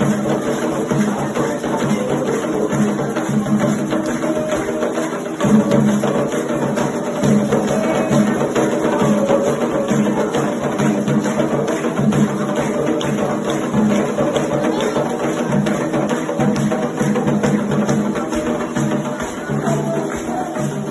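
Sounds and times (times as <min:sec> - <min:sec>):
hand drums: 0:00.0 - 0:20.9
struck percussion rhythm: 0:00.0 - 0:20.9.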